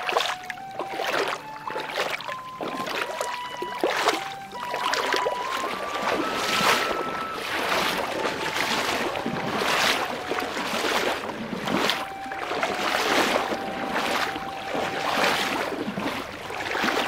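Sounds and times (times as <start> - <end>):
faint steady tones: 0.0 - 17.0
rushing splashing water: 0.0 - 17.0.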